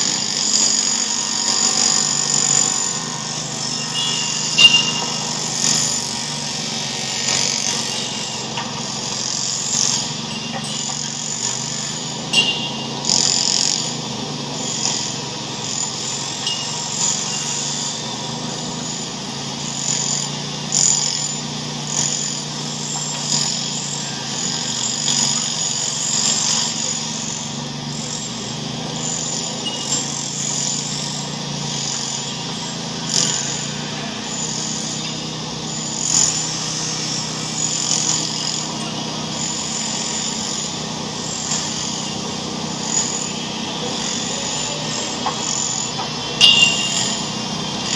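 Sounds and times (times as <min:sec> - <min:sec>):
mechanical drone: 0:00.0 - 0:47.9.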